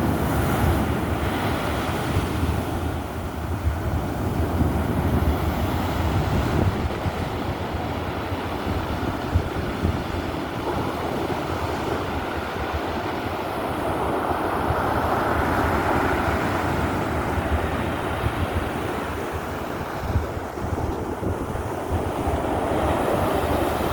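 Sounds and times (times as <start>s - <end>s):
stormy sea surf: 0.0s - 23.9s
strong wind: 0.0s - 23.9s
wind buffeting the microphone: 0.0s - 23.9s.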